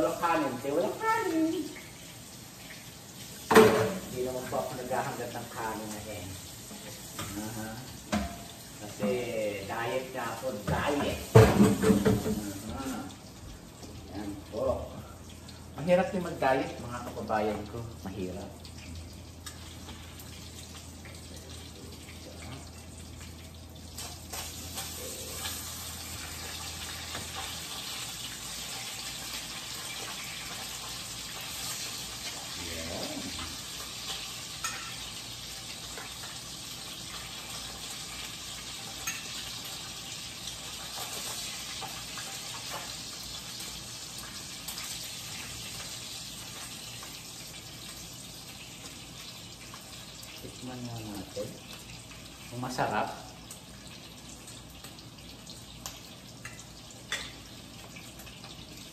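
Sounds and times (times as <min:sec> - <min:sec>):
sausage sizzling in skillet: 0:00.0 - 0:58.9.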